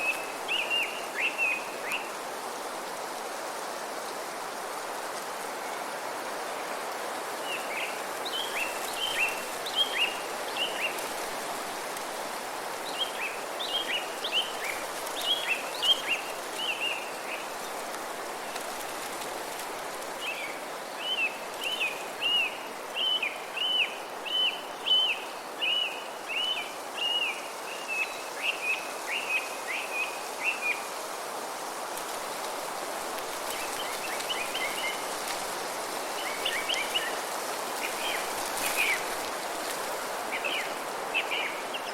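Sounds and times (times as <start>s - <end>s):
wind through trees: 0.0s - 41.9s.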